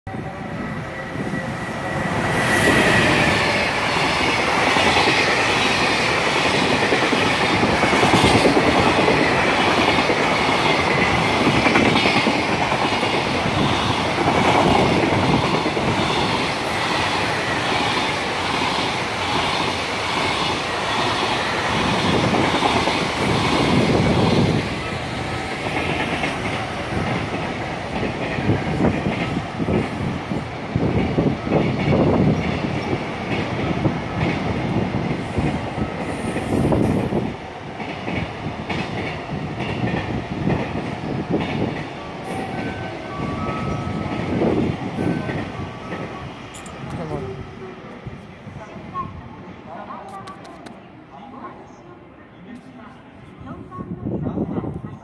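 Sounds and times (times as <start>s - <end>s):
electric locomotive whine: 0.1s - 55.0s.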